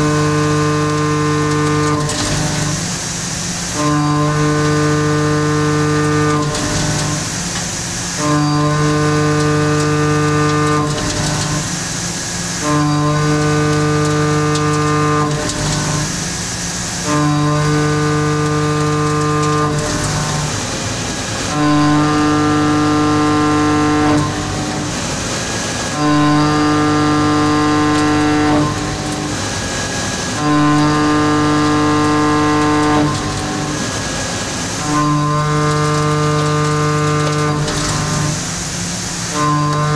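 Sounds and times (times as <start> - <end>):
milling cutter humming: 0.0 - 39.9.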